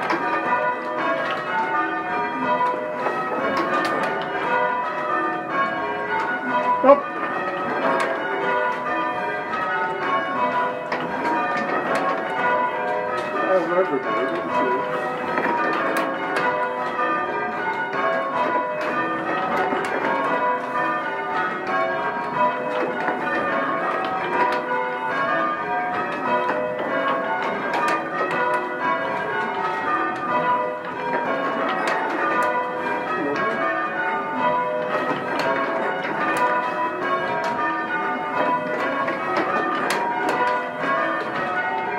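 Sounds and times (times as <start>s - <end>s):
church bells change ringing: 0.0s - 41.9s.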